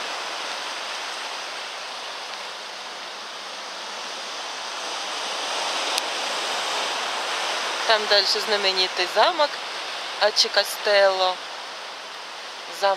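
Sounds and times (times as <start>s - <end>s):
sea surf breaking on rocks: 0.0s - 12.9s.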